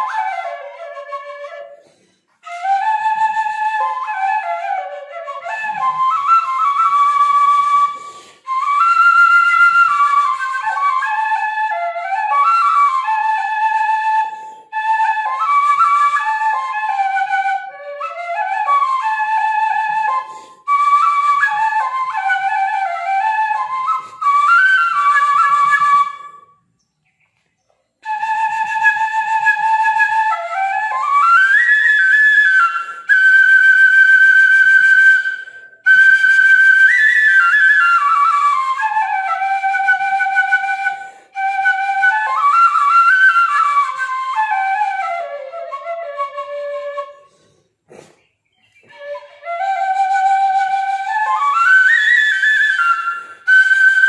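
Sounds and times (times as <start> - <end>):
flute playing slow melody: 0.0 - 26.7, 28.0 - 47.5, 48.8 - 54.0.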